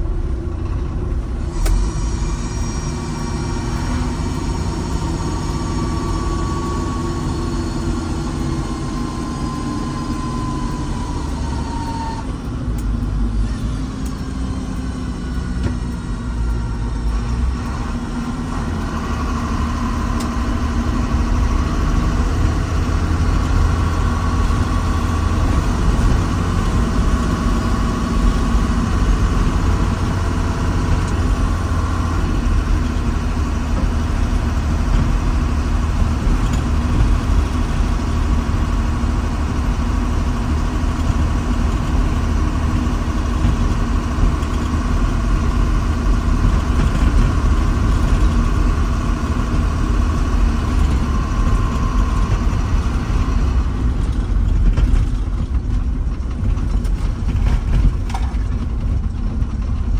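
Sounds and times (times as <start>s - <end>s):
heavy diesel engine rumbling: 0.0s - 59.9s
steady whine: 0.0s - 59.9s.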